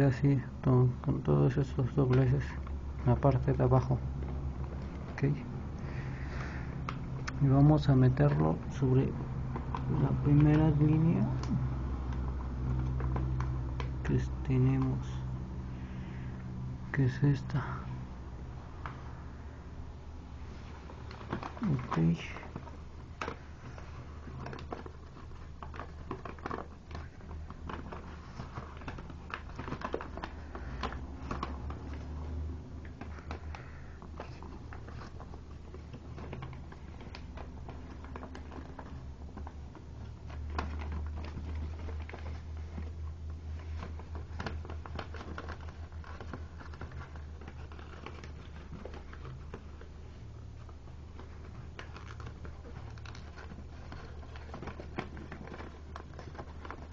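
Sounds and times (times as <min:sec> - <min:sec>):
paper rustling and crinkling: 0:00.0 - 0:56.9.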